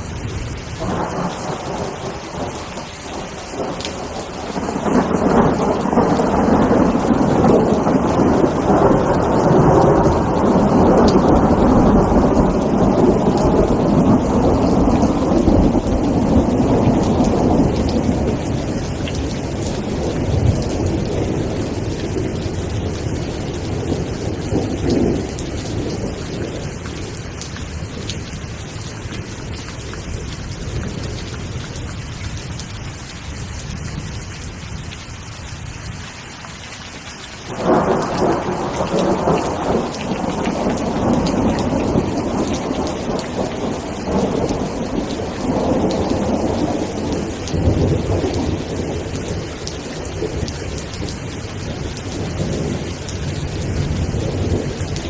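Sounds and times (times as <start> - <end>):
rolling thunder: 0.0 - 28.2, 37.5 - 55.0
steady rain falling: 0.0 - 55.0.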